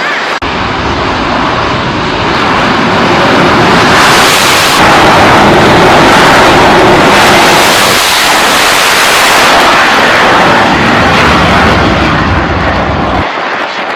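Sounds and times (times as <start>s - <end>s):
jet engines roaring: 0.0s - 13.9s.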